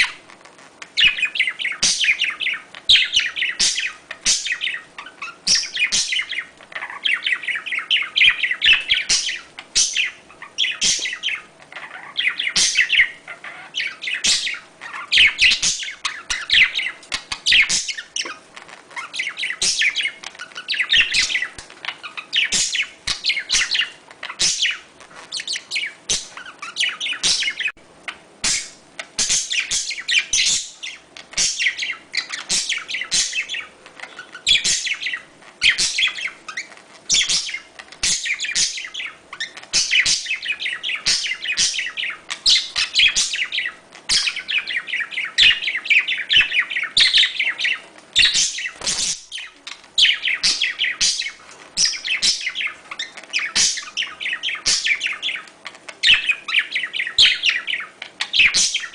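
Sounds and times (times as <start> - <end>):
budgerigars chattering and warbling: 0.9 - 58.9.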